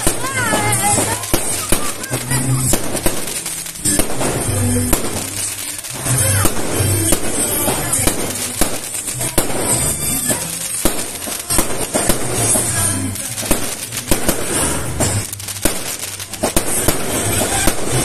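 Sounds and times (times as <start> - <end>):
background music: 0.0 - 18.0
fireworks bangs and crackling: 0.0 - 18.0.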